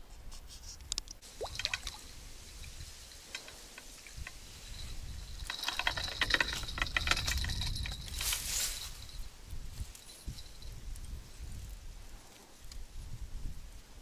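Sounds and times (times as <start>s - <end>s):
grass rustling and crackling: 0.0s - 14.0s.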